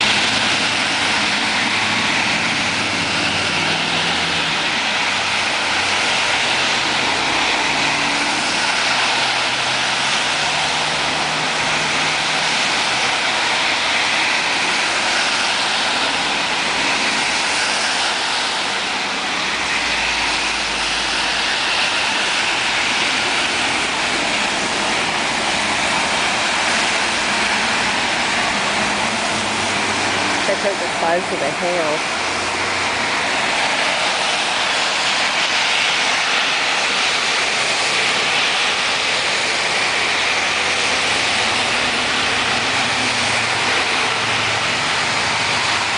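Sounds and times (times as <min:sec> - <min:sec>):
hail falling hard: 0:00.0 - 0:45.9.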